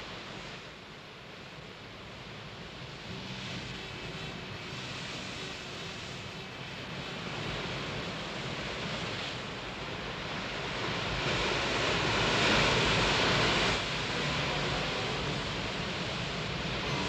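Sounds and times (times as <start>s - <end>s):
surf breaking on rocks: 3.0s - 17.0s.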